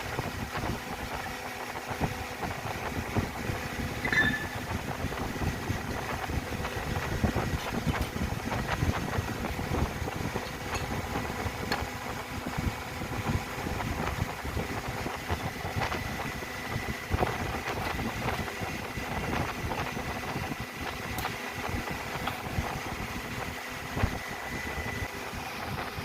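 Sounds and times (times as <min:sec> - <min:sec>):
motor-driven machine droning: 0:00.0 - 0:26.0.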